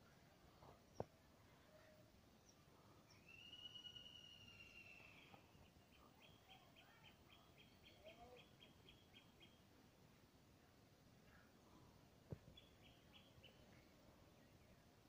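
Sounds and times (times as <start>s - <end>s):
faint birdsong: 0.0s - 15.0s
soft low bird chirps: 0.7s - 9.6s, 11.2s - 15.0s.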